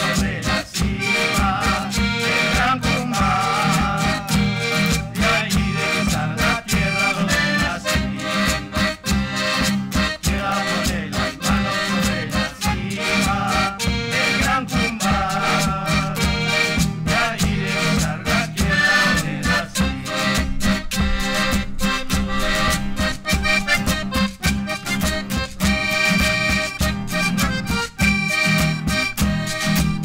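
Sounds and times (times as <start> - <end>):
held melodic notes: 0.0 - 30.0
percussive strikes beat: 0.0 - 30.0.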